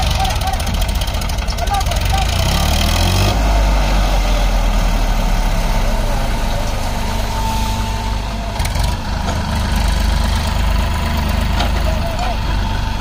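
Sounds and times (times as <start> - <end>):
excavator engine idling: 0.0 - 13.0
tractor diesel engine idling: 0.0 - 13.0.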